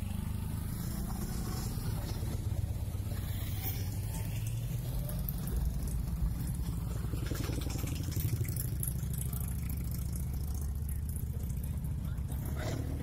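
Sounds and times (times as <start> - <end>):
car passing slowly: 0.0 - 13.0
motorcycle passing slowly: 0.0 - 13.0.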